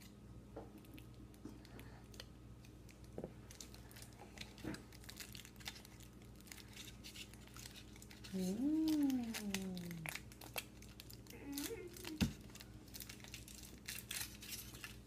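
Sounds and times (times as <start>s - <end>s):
foil wrapper crinkling and tearing: 2.9s - 15.0s.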